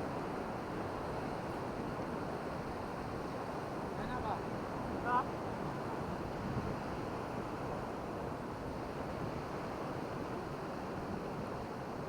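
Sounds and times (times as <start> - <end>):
surf rushing on a beach: 0.0 - 12.0.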